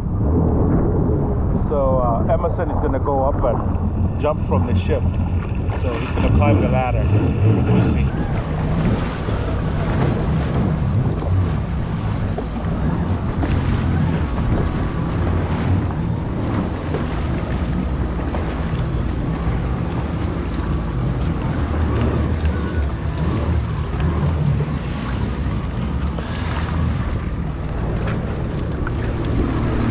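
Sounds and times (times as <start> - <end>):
sea water around hull: 0.0 - 29.9
wind buffeting microphone: 0.0 - 29.9
jet ski engine idling: 3.8 - 29.9.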